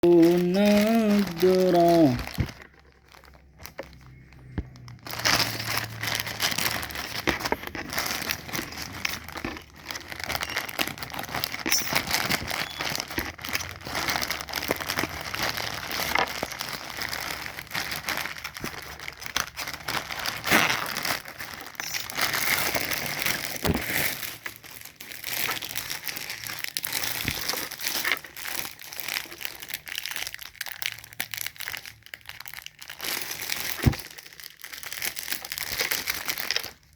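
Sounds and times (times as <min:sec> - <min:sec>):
plastic packaging crinkling: 0:00.0 - 0:36.9.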